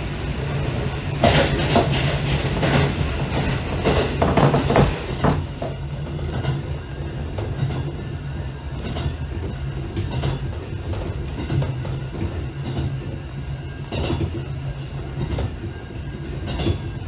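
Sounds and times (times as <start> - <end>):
train wheels clattering on track: 0.0 - 17.0
track clicks: 1.2 - 17.0.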